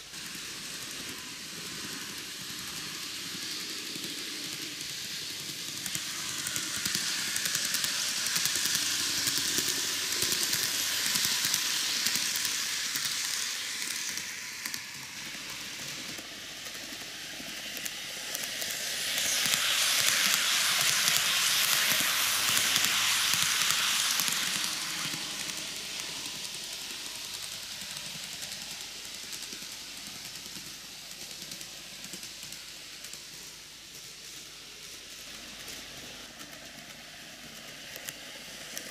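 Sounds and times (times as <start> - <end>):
model train wheels and motor: 0.0 - 38.9.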